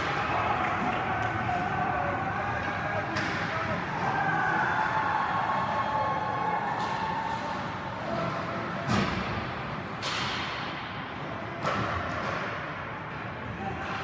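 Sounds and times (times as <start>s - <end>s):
background murmur: 0.0s - 14.0s.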